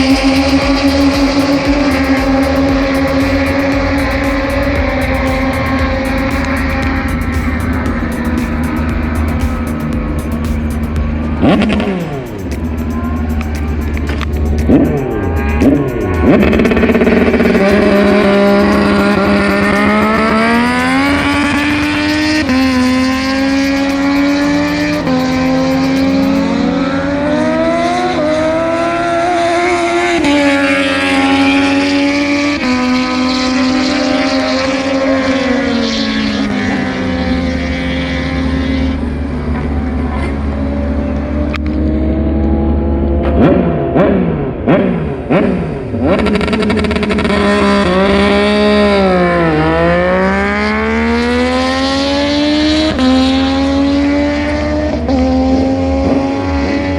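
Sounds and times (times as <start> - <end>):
racing motorcycles revving: 0.0 - 56.9.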